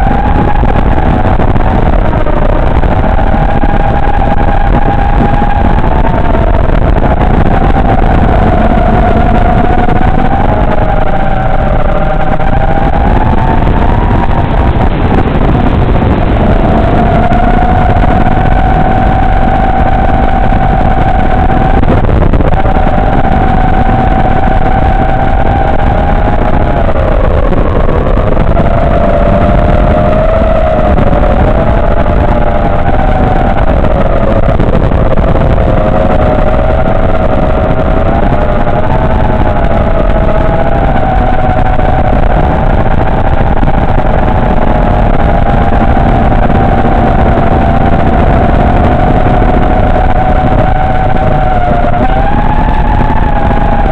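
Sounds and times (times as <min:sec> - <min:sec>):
quadcopter motors buzzing: 0:00.0 - 0:53.9
rush of air noise: 0:00.0 - 0:53.9.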